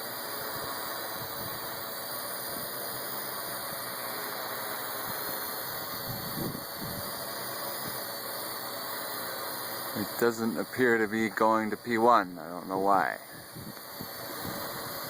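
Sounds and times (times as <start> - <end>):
drone rotors whining: 0.0 - 15.0.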